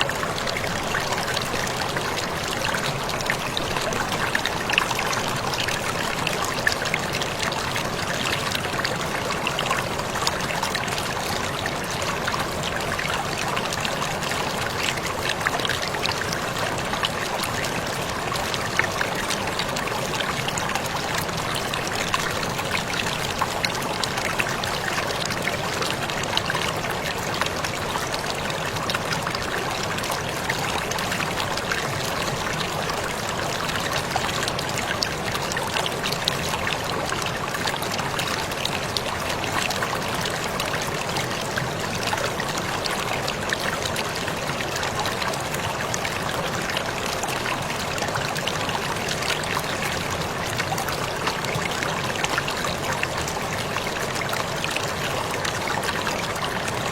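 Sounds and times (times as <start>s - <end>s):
waterfall rushing and splashing: 0.0s - 56.9s.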